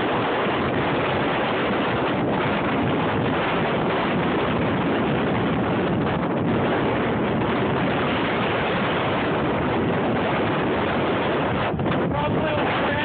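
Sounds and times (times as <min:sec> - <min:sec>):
wind blasting microphone: 0:00.0 - 0:13.0.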